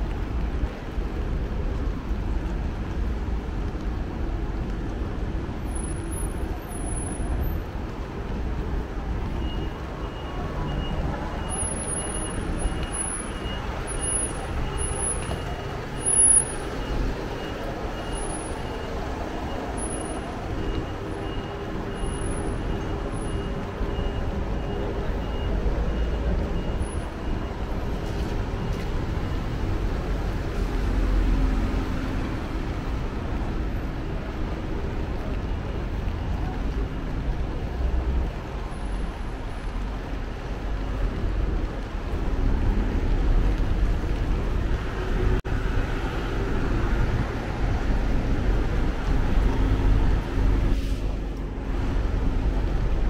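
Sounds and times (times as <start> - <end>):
road vehicles passing: 0.0 - 53.0.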